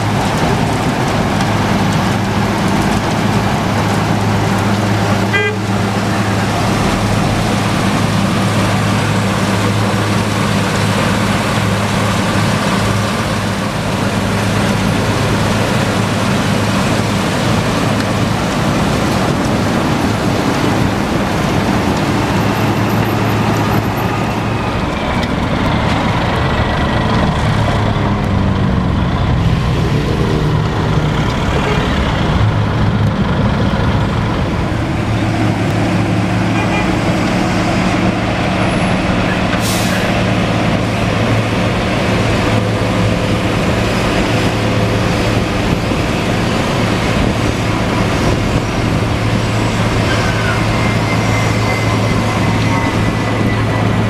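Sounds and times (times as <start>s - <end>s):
asphalt pouring off conveyor: 0.0s - 54.0s
heavy diesel engines running: 0.0s - 54.0s.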